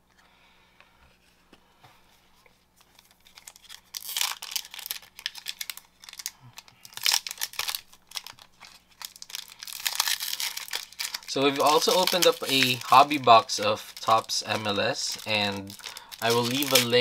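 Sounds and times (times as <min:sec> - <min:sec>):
wrapper crinkling and tearing: 0:02.8 - 0:17.0.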